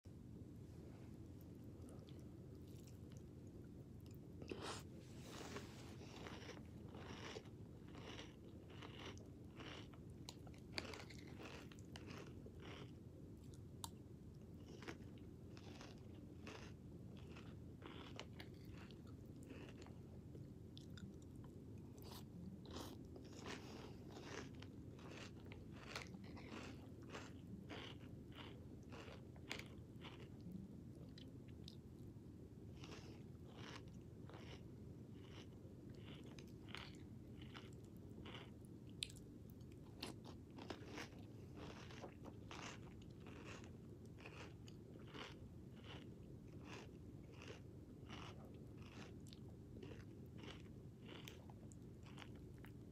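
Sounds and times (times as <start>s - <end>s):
faint low hum: 0.0s - 52.9s
person chewing crunchy cereal: 1.4s - 32.0s, 32.6s - 52.9s.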